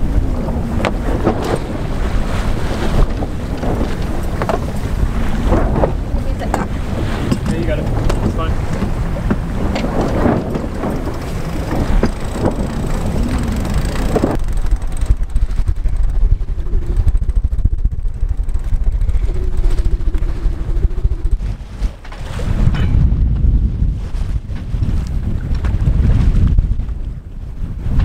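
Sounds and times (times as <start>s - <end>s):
water rushing along hull: 0.0s - 28.0s
wind rumbling on microphone: 0.0s - 28.0s.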